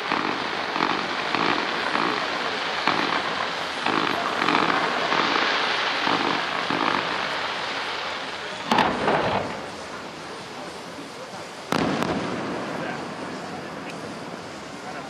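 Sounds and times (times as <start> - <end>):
fireworks crackling and hissing: 0.0 - 15.0.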